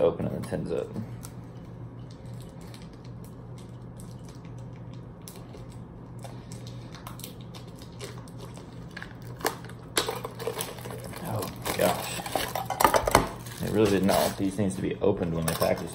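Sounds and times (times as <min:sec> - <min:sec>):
steady low hum: 0:00.0 - 0:15.9
plastic wrap crinkling: 0:02.1 - 0:15.9.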